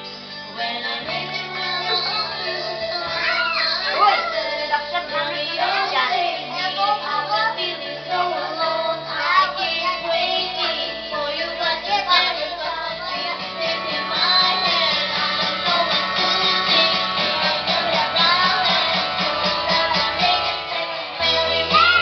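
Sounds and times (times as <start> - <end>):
karaoke backing music: 0.0 - 22.0
child singing: 0.6 - 22.0.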